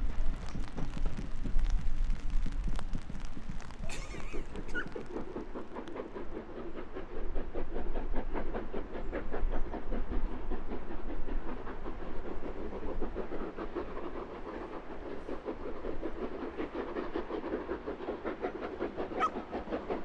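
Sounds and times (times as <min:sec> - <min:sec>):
steam locomotive chuffing: 0:02.1 - 0:20.0.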